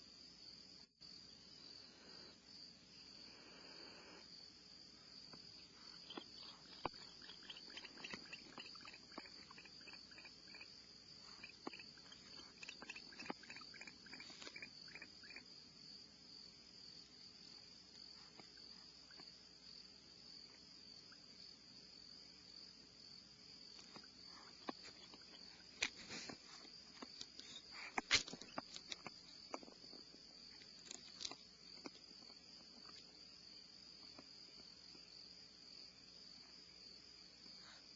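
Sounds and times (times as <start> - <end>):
insects chirring: 0.0 - 37.9.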